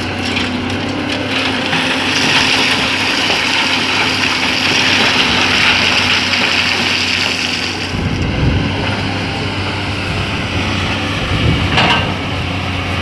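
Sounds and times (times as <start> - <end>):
excavator engine droning: 0.0 - 13.0.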